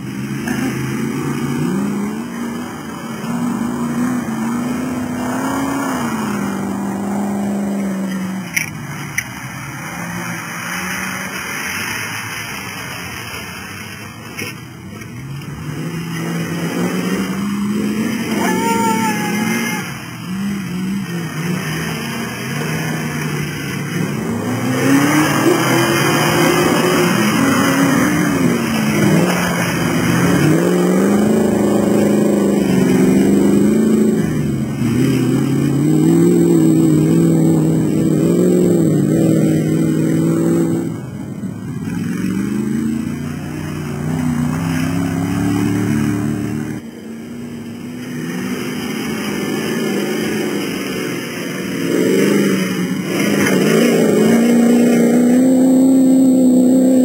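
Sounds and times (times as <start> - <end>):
racing car engine revving: 0.0 - 57.0.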